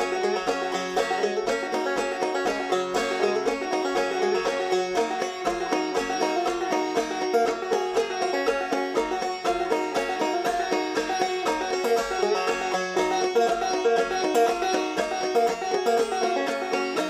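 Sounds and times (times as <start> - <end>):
plucked string notes: 0.0 - 17.0.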